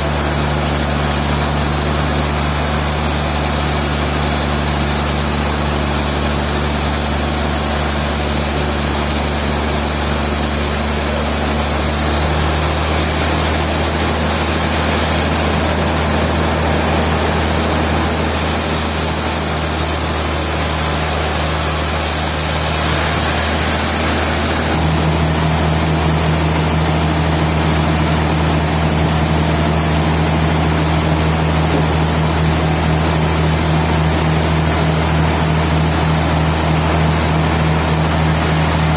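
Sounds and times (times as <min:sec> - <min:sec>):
low machinery hum: 0:00.0 - 0:38.9.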